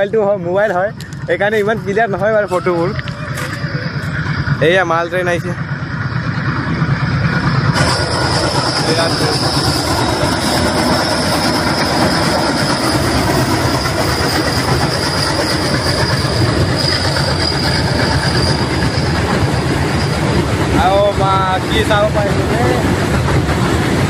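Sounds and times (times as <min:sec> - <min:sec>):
high steady squeal: 0:00.0 - 0:22.9
train wagons rumbling on bridge: 0:00.0 - 0:24.0.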